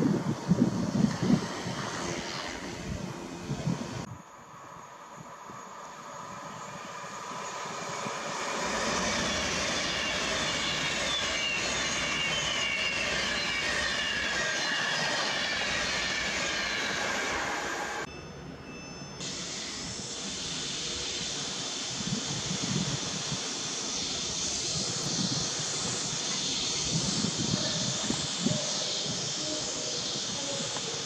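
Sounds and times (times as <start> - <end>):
train wheels roaring on rail: 0.0 - 4.1, 5.1 - 18.1, 19.2 - 31.0
falling whine of passing train: 0.0 - 31.0.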